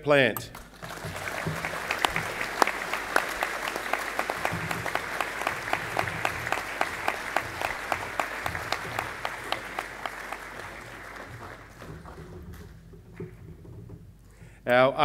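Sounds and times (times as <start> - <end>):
audience applauding: 0.6 - 13.3.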